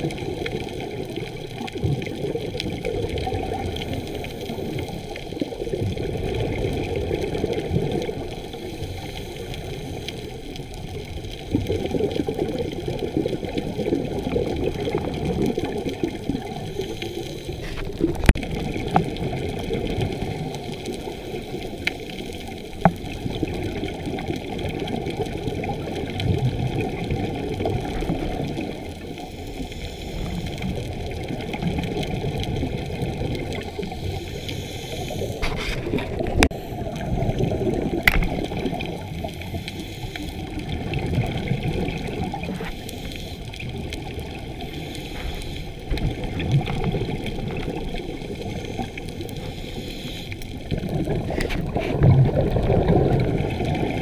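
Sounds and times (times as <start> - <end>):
underwater regulator bubbles: 0.0 - 54.0.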